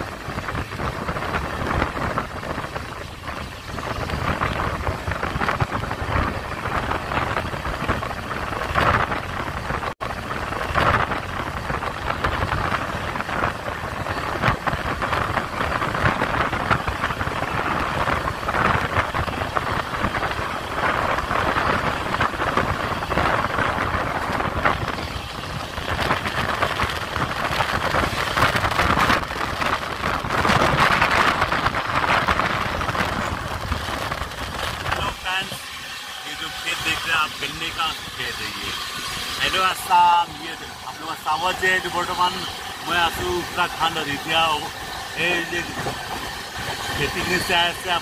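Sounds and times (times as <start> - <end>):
train wheels on track: 0.0 - 48.0.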